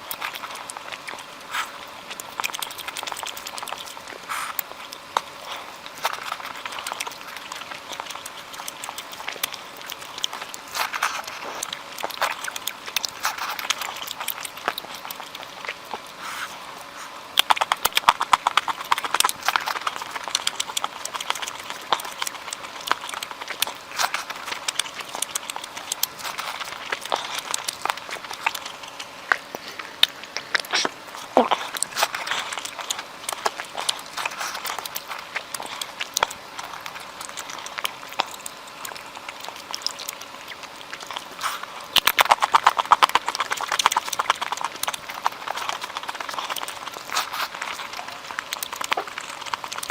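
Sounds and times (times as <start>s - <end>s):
chewing with wet mouth clicks: 0.0s - 49.9s.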